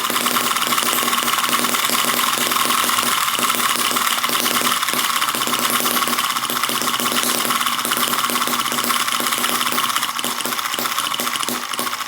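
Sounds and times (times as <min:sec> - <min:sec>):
miniature engine running: 0:00.0 - 0:12.0.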